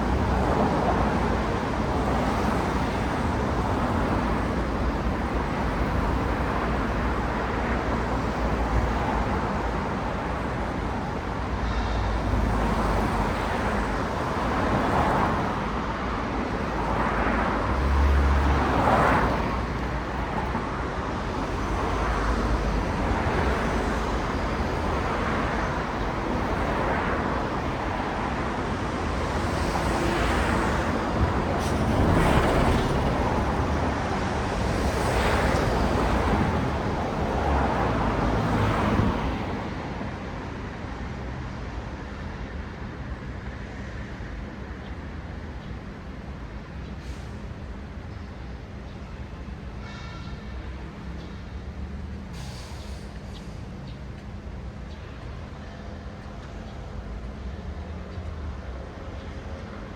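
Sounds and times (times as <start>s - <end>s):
cars passing on road: 0.0s - 59.9s.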